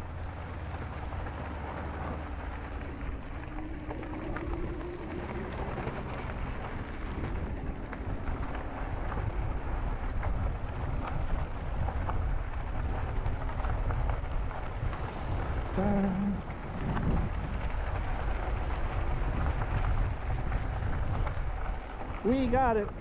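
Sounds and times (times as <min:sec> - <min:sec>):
bike tyres rolling on trail: 0:00.0 - 0:23.0
small clicks and ticks: 0:00.0 - 0:23.0
wind rumbling on microphone: 0:00.0 - 0:23.0.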